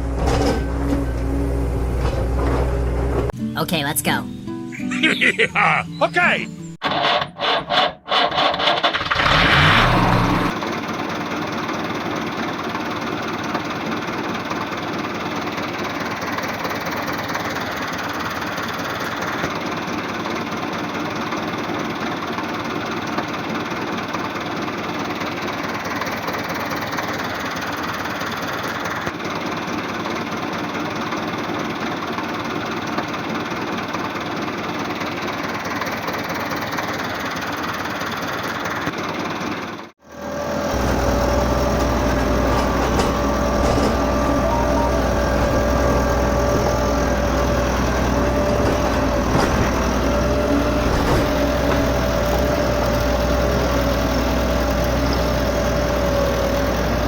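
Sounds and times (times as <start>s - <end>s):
small engine idling: 7.8s - 57.0s.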